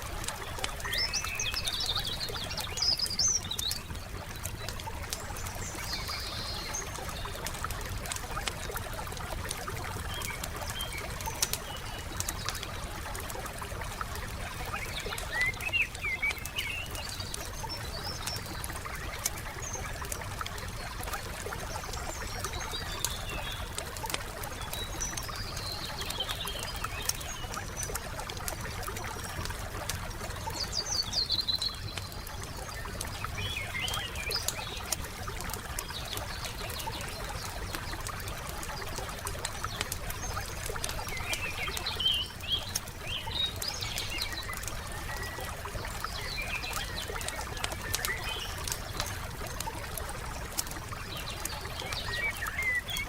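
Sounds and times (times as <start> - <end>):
wood fire crackling and popping: 0.0 - 30.8, 31.5 - 52.5
small birds chirping: 0.0 - 53.0.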